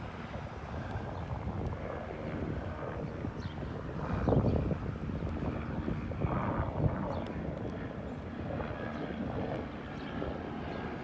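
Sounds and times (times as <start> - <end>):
helicopter drone overhead: 0.0 - 11.0.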